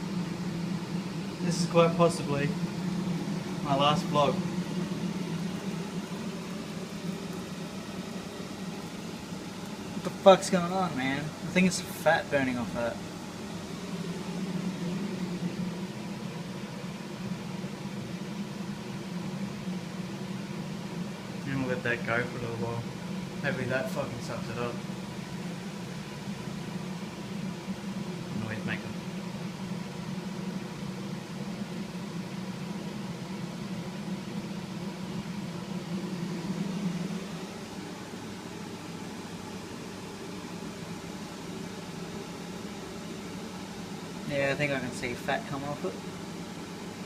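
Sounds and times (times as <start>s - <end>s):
range hood fan humming: 0.0s - 47.0s.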